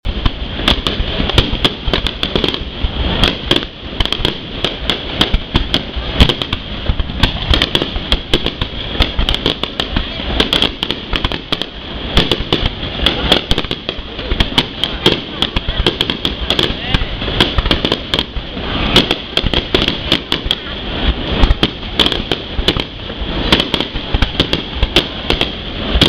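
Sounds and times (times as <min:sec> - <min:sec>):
fireworks bursting with sharp bangs: 0:00.0 - 0:26.0.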